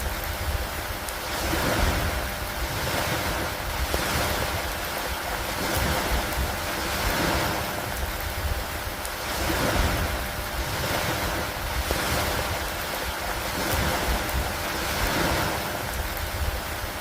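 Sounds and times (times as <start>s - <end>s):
rain on a wooden dock: 0.0s - 17.0s
wind rumble: 0.0s - 17.0s.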